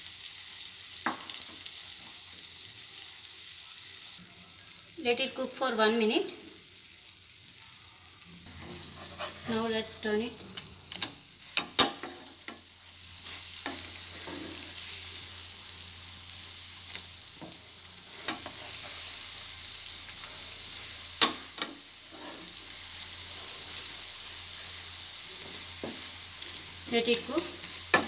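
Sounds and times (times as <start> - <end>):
egg sizzling in oil: 0.0 - 28.0.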